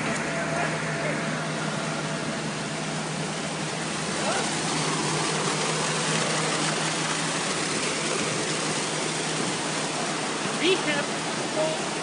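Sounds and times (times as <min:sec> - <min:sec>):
machine low hum: 0:00.0 - 0:12.0
muddy water rushing through channel: 0:00.0 - 0:12.0.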